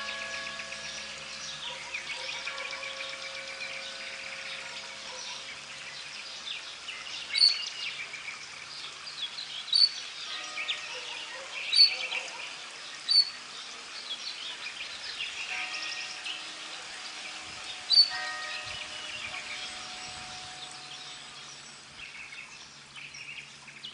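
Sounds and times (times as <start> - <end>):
bird twittering warble: 0.0 - 10.8, 14.2 - 23.9.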